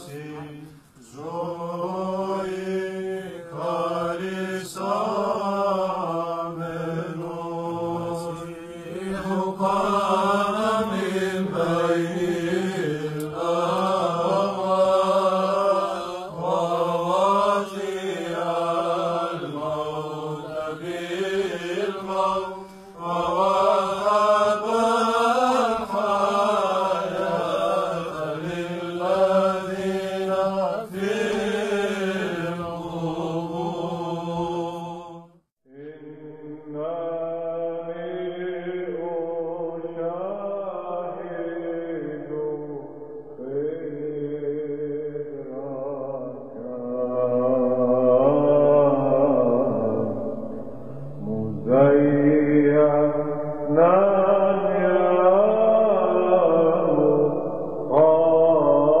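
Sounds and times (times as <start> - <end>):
person chanting a melody: 0.0 - 35.1, 35.7 - 59.0.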